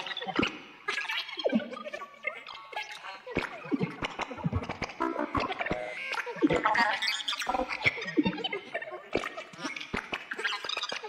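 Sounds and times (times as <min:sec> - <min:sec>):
alien creature chatter: 0:00.9 - 0:11.0.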